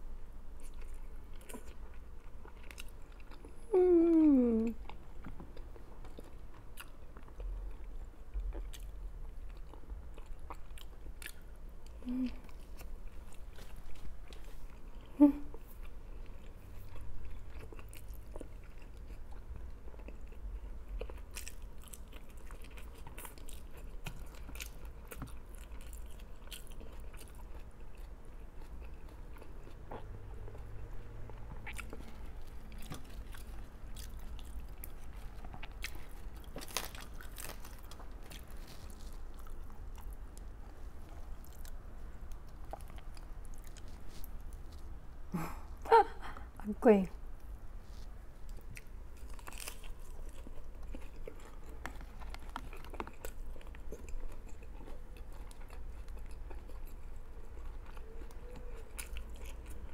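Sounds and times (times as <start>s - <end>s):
person chewing food: 0.5s - 46.5s, 47.3s - 59.9s.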